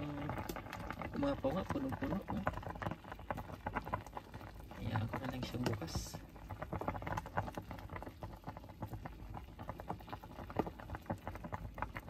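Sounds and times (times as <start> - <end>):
soup boiling with bubbles popping: 0.0 - 12.0.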